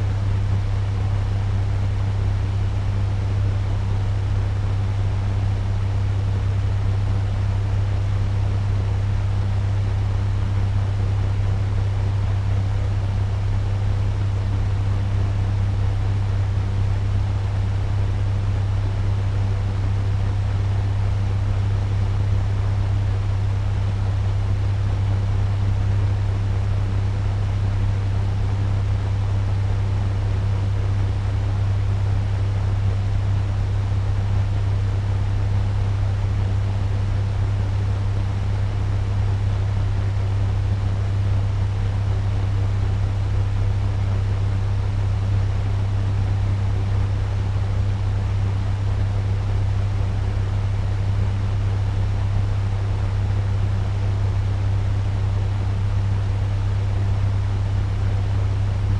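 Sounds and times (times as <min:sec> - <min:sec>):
turbo fan running: 0:00.0 - 0:58.9.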